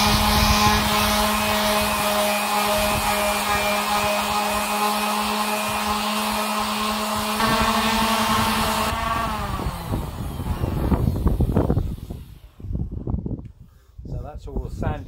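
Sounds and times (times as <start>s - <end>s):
orbital sander on wood: 0.0s - 13.1s.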